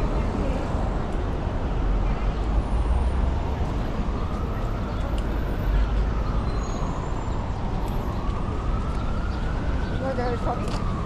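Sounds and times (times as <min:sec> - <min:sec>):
passing vehicles hum: 0:00.0 - 0:11.0.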